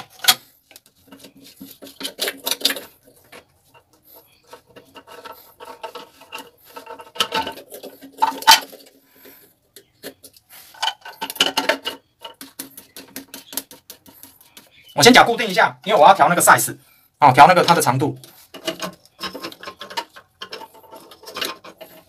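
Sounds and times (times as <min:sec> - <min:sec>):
plastic drain fittings scraping and clicking: 0:00.0 - 0:16.7, 0:17.3 - 0:22.0.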